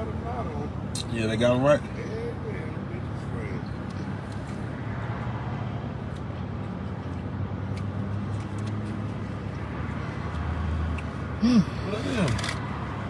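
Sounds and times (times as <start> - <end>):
car engine hum inside cabin: 0.0 - 13.0.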